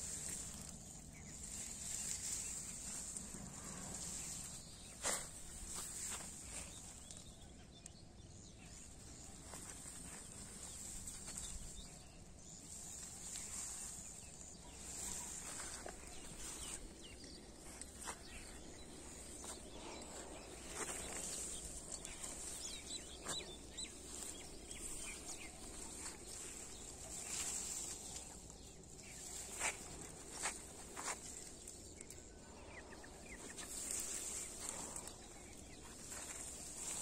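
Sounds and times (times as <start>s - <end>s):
faint bird chirps: 0.0s - 37.0s
footsteps and plant rustling: 0.0s - 37.0s.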